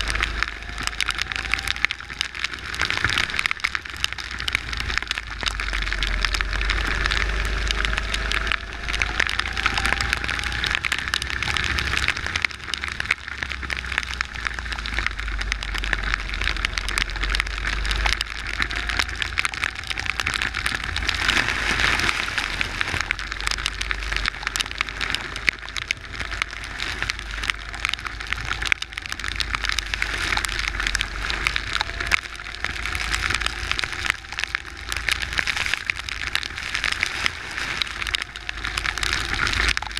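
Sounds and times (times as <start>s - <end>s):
hiss of water spray and rain: 0.0s - 39.9s
wind rumble on microphone: 0.0s - 39.9s.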